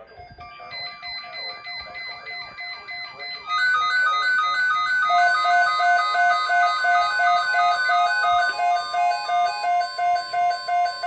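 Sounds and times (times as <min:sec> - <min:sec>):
electronic beeping melody: 0:00.0 - 0:11.0.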